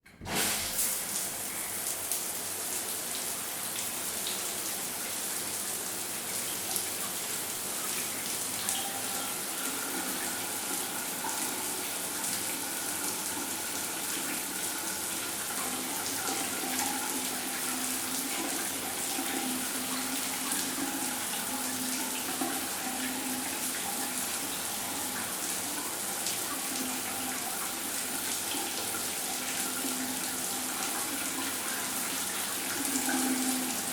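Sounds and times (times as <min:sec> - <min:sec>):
shower running: 0:00.1 - 0:33.9.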